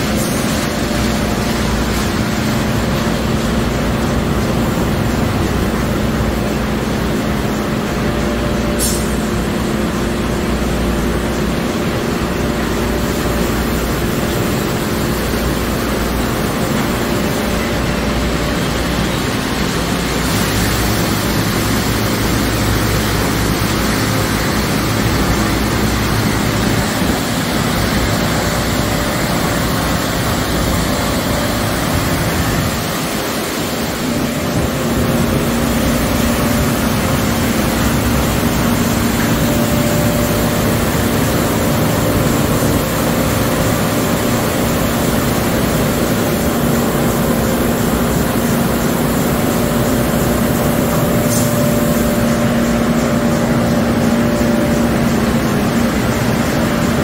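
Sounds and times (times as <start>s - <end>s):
car wash rushing: 0.0s - 57.0s
low machine hum: 0.0s - 57.0s.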